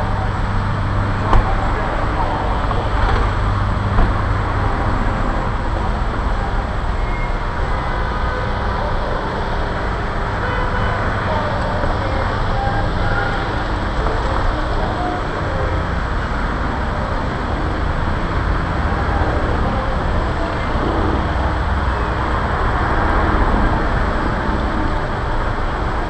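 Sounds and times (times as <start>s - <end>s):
city road traffic rumble: 0.0s - 26.0s.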